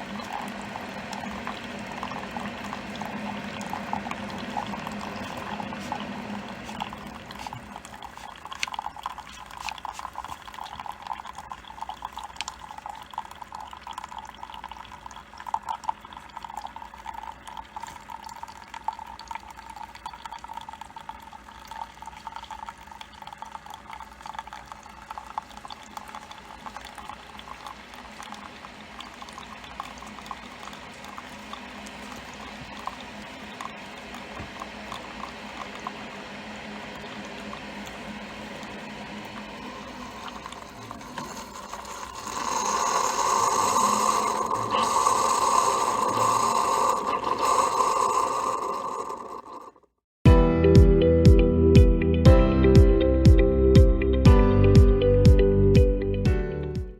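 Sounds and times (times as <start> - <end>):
coffee bubbling and trickling: 0.0 - 50.0.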